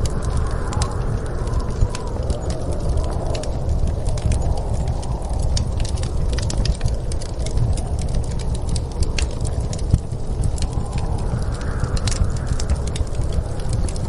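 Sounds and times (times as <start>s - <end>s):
low rumble of wind: 0.0s - 14.0s
wood fire crackling and popping: 0.0s - 14.0s.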